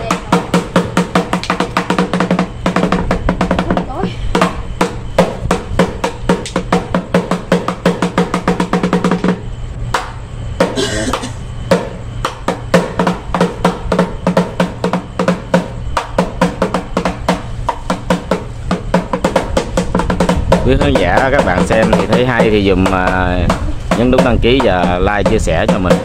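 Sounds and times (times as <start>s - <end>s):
fast drum strikes: 0.0s - 26.0s.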